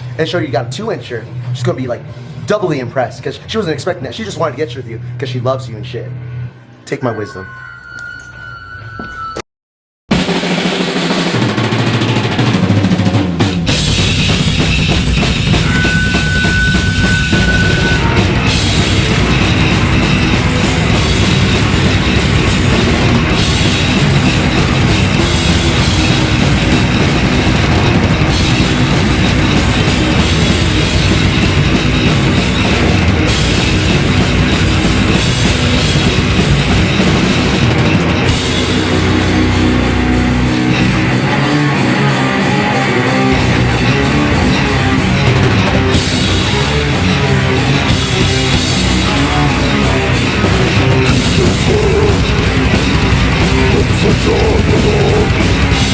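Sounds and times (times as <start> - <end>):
heavy metal band playing live: 10.1 - 55.9.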